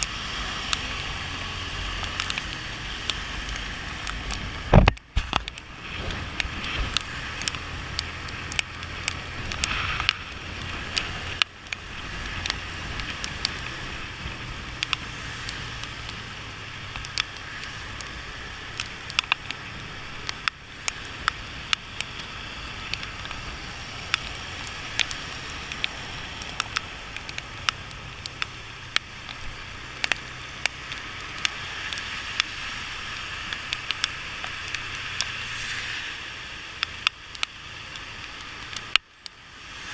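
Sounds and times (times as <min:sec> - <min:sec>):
raindrops ticking on microphone: 0:00.0 - 0:39.9
tyres hissing on wet road: 0:00.0 - 0:39.9.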